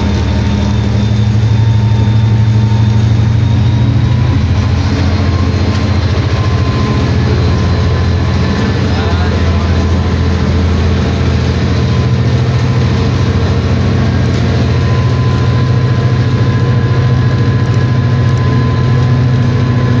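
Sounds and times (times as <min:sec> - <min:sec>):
diesel locomotive engine droning: 0:00.0 - 0:20.0.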